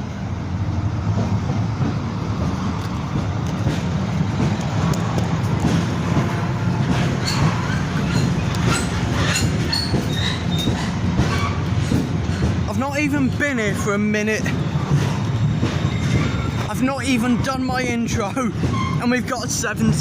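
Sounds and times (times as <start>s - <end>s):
diesel locomotive engine rumble: 0.0s - 20.0s
wheels clicking over rail joints: 0.0s - 20.0s
wheels squealing: 2.5s - 12.7s, 13.3s - 19.6s.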